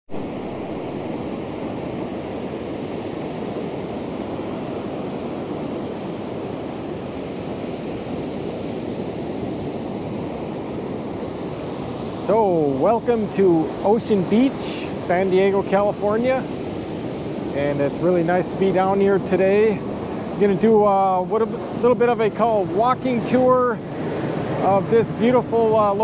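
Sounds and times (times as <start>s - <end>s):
ocean surf: 0.1s - 26.0s.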